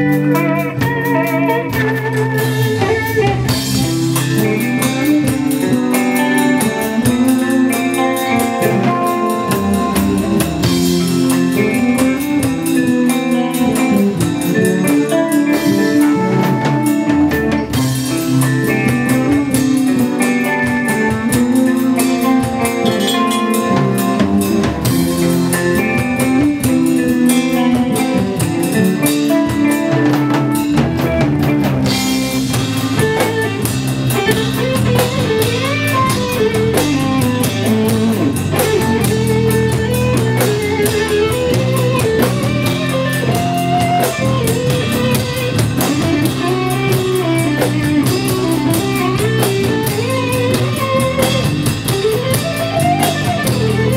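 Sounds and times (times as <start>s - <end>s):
drum kit and cymbals: 0.0s - 53.9s
electric guitar lines: 0.0s - 53.9s.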